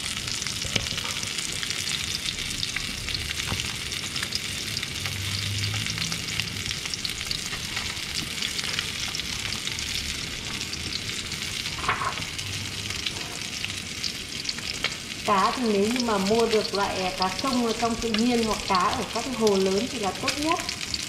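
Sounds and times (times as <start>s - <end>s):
fish frying in hot oil: 0.0s - 21.0s.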